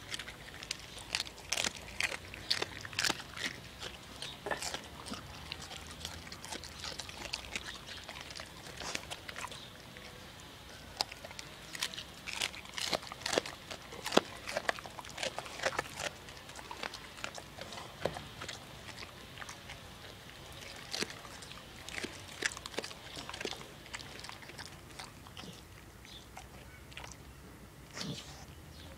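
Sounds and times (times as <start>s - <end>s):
dog crunching cabbage: 0.0s - 28.5s.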